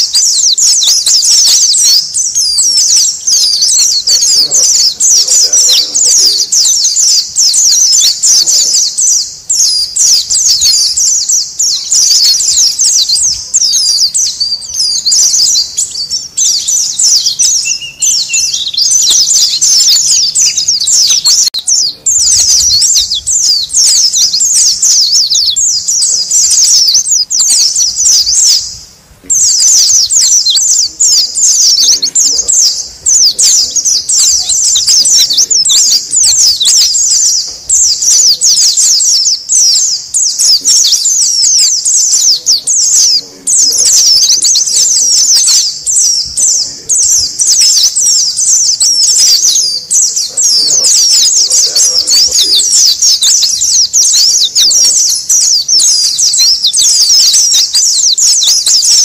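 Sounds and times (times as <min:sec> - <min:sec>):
birds chirping and twittering: 0:00.0 - 0:59.0.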